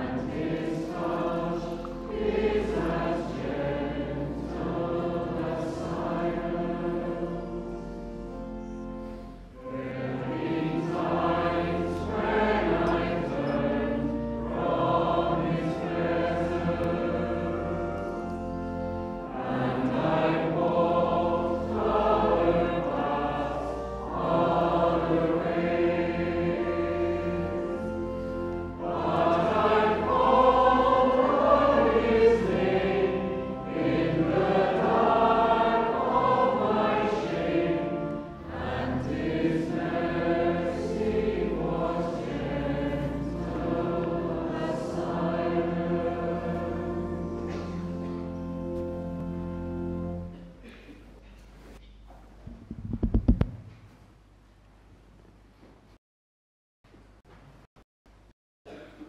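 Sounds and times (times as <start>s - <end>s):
choir singing a hymn: 0.0s - 50.8s.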